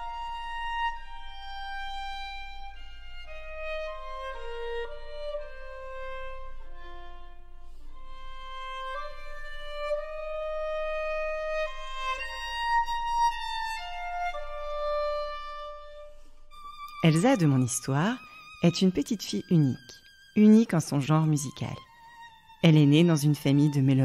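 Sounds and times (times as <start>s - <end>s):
violin slow melody: 0.0s - 24.0s.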